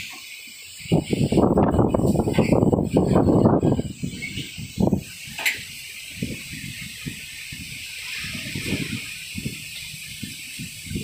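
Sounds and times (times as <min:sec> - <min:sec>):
strong gusting wind: 0:00.7 - 0:11.0
wind buffeting microphone: 0:00.7 - 0:11.0.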